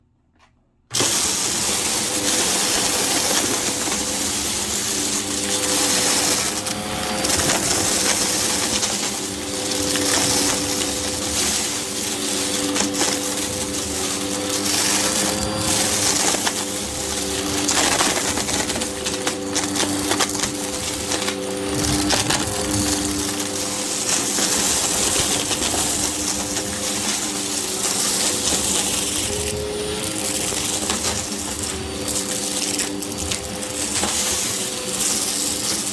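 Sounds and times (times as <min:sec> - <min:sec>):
grit crackling in vacuum: 0:00.9 - 0:35.9
vacuum cleaner motor humming: 0:00.9 - 0:35.9.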